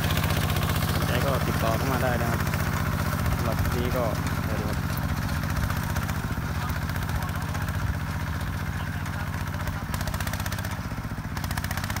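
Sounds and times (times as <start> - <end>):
diesel tractor engine chugging: 0.0 - 12.0.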